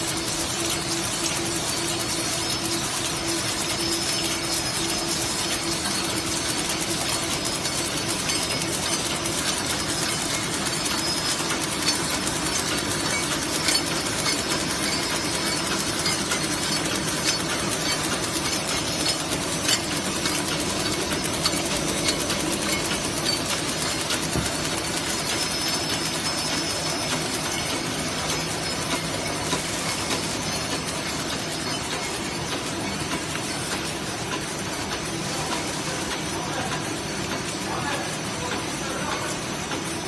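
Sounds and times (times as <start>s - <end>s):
machine hum: 0.0s - 37.1s
machine mechanical clatter: 0.0s - 40.0s
sharp machine clicks: 0.0s - 40.0s.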